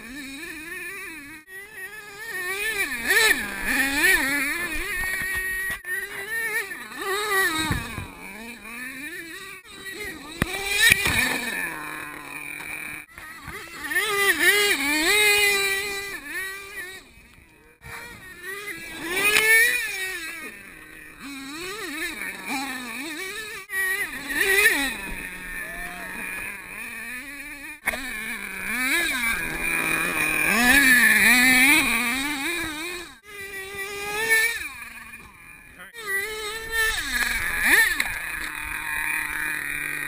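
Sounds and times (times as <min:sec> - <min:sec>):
small engine revving: 0:00.0 - 0:40.0.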